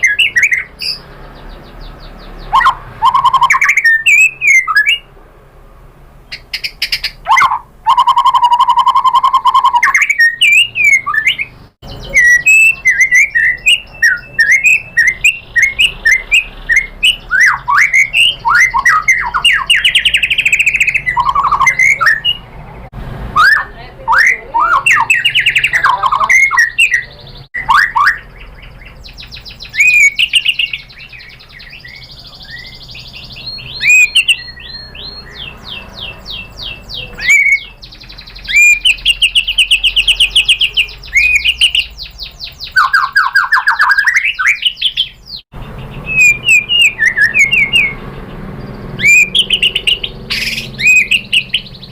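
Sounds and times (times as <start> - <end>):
bird singing whistles and trills: 0.0 - 5.1, 6.3 - 22.6, 23.4 - 51.9.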